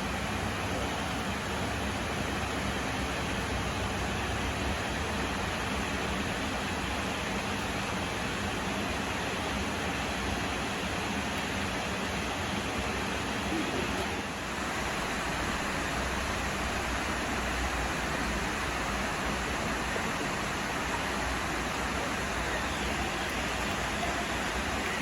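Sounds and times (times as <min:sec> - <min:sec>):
waterfall and stream flowing: 0:00.0 - 0:25.0.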